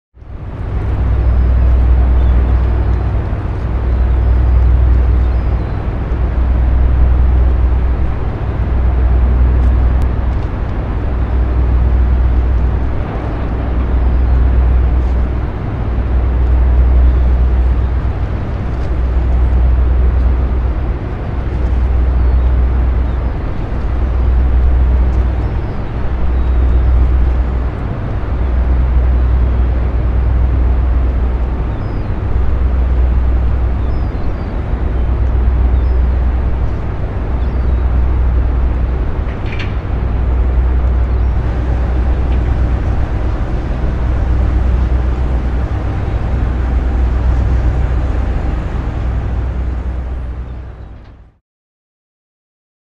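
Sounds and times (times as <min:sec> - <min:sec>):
deep engine rumble: 0:00.1 - 0:51.4
steady mechanical noise: 0:00.2 - 0:51.4.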